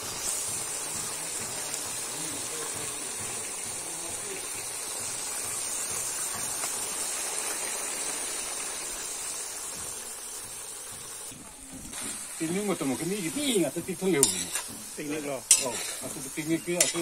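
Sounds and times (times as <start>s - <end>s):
meat sizzling in a wok: 0.0s - 17.0s.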